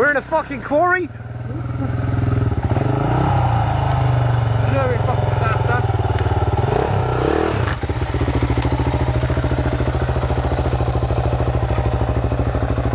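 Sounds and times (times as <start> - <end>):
dirt bike engine idling: 0.0 - 12.9.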